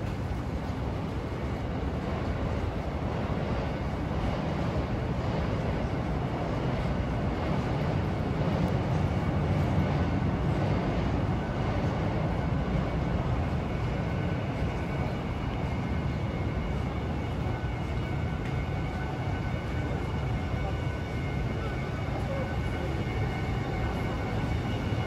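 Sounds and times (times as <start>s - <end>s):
low rumble of city traffic: 0.0s - 25.0s.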